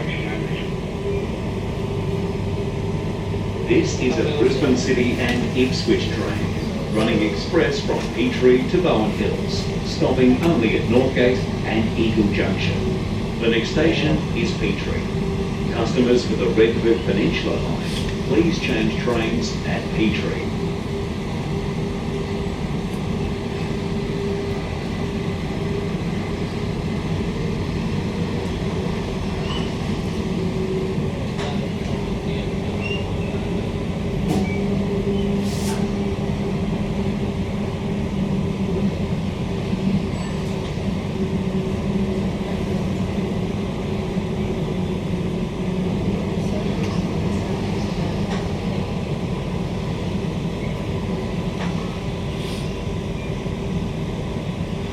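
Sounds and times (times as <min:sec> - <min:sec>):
constant hum: 0:00.0 - 0:54.9
train rumble and wheel-on-rail noise: 0:00.0 - 0:54.9.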